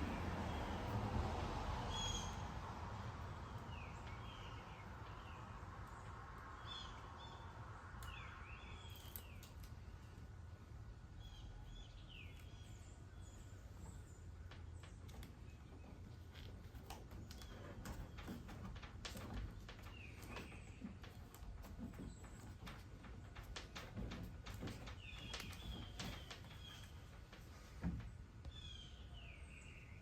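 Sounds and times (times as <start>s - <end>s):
small birds chirping: 3.2s - 27.6s.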